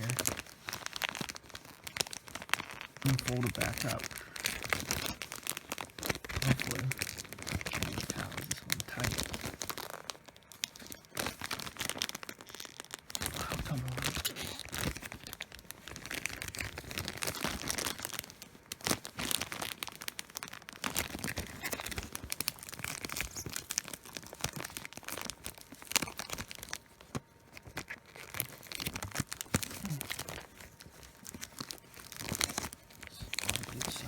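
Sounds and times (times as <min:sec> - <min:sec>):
plastic wrapping crinkling: 0:00.0 - 0:34.0.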